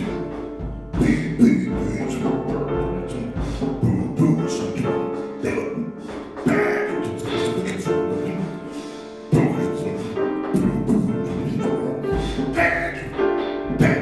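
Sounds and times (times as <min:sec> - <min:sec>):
man vocalising without words: 0:01.0 - 0:14.0.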